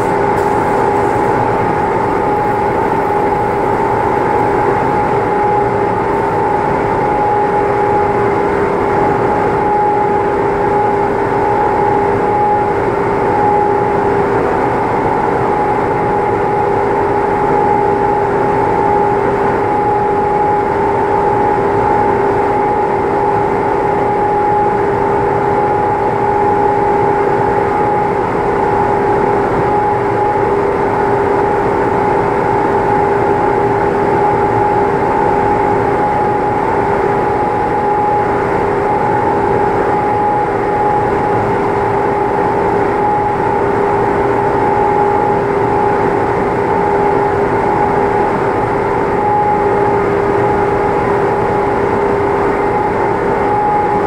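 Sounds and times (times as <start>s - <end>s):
machine hum with whine: 0.0s - 54.0s.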